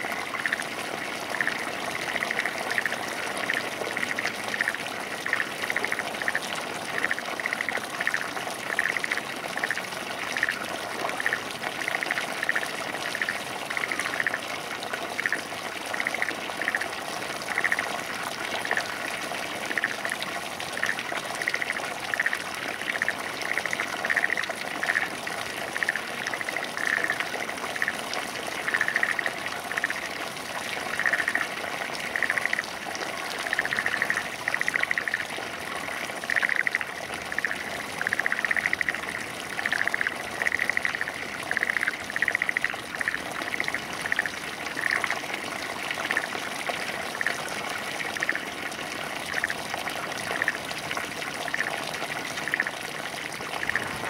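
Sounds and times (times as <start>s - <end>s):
frogs calling: 0.0s - 54.0s
water running through ditch: 0.0s - 54.0s.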